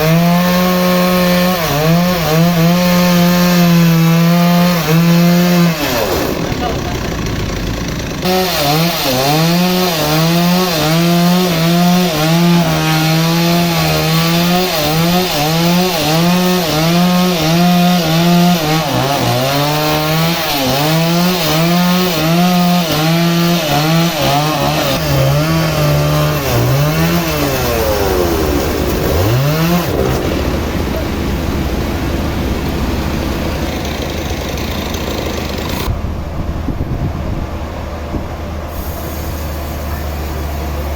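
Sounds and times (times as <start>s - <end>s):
motor-driven saw cutting wood: 0.0s - 30.9s, 33.2s - 35.9s.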